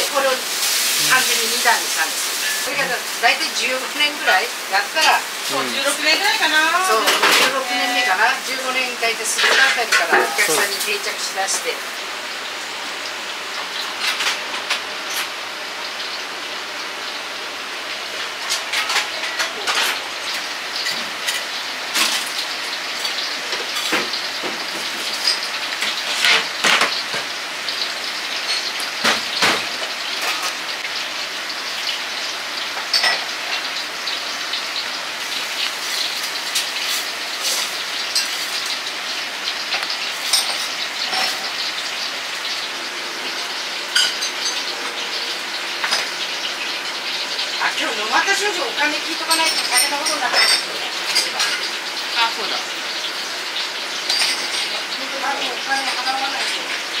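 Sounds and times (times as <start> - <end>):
wok sizzling: 0.0 - 57.0.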